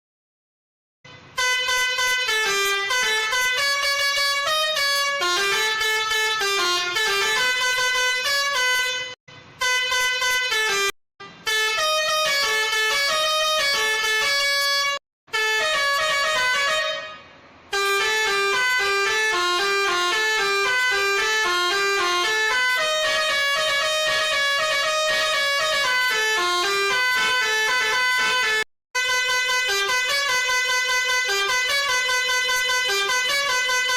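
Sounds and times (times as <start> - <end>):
multi-tone bus horn tune: 1.1 - 33.9.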